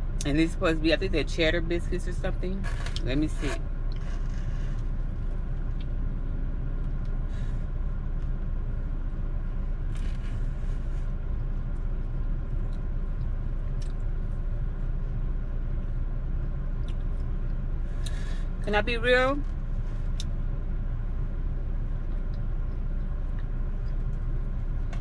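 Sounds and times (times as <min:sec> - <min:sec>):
car engine rumble inside cabin: 0:00.0 - 0:25.0.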